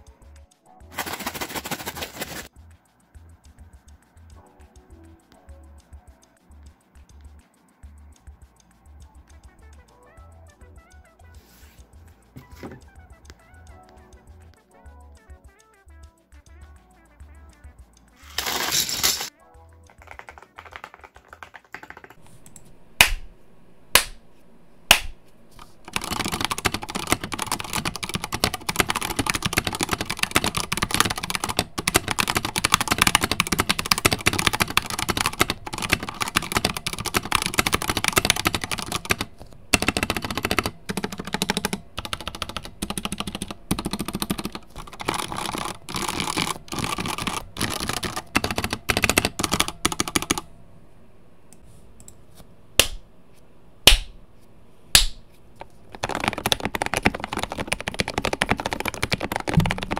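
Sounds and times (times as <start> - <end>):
mechanical keyboard typing: 0.0 - 23.2, 24.9 - 50.5, 55.0 - 59.9.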